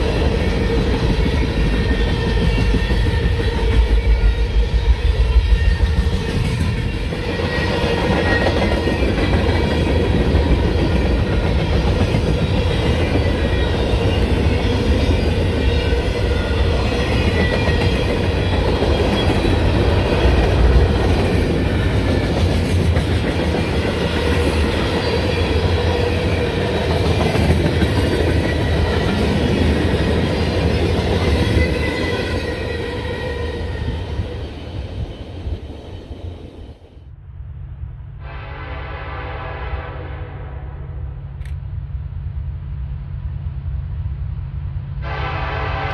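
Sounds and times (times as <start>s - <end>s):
freight train rolling past: 0.0s - 45.9s.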